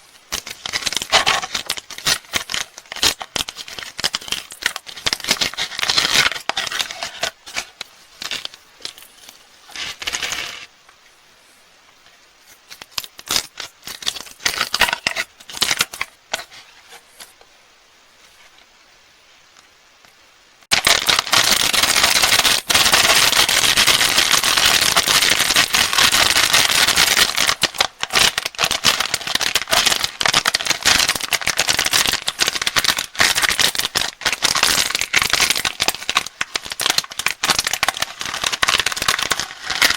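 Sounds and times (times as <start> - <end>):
candy wrappers crinkling: 0.0 - 10.7, 12.4 - 16.6, 20.7 - 39.9.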